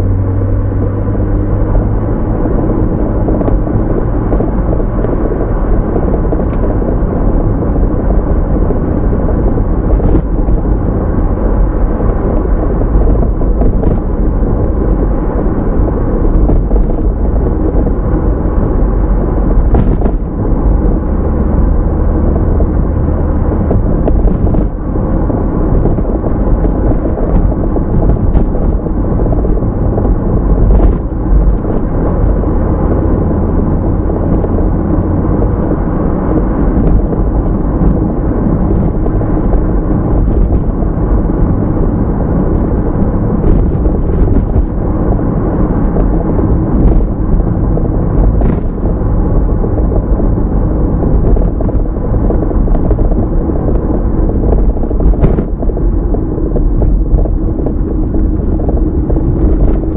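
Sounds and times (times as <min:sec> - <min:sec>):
engine hum: 0:00.0 - 0:59.9
tyre and road noise: 0:00.0 - 0:59.9.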